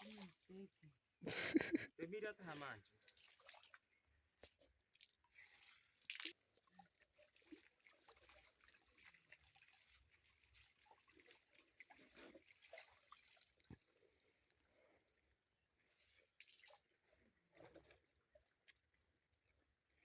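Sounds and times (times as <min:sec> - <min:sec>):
water dripping and splashing: 0:00.0 - 0:00.6, 0:02.5 - 0:14.9, 0:15.8 - 0:19.6.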